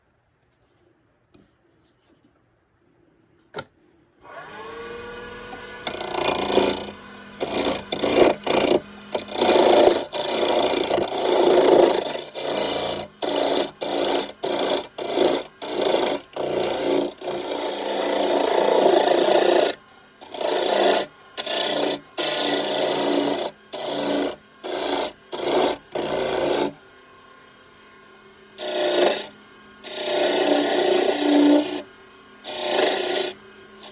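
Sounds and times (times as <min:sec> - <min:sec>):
tool scraping spinning wood: 0:03.8 - 0:26.8, 0:28.6 - 0:33.9
lathe motor humming: 0:04.2 - 0:26.7, 0:28.6 - 0:33.9.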